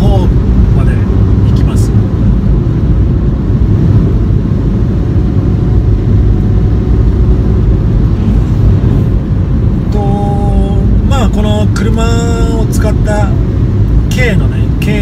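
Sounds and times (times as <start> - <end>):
van engine and road noise: 0.0 - 15.0.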